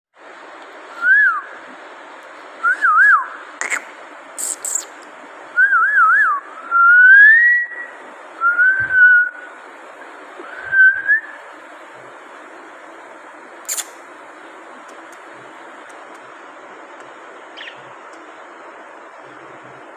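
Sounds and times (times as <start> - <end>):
steady hiss: 0.2 - 5.6, 6.3 - 19.9.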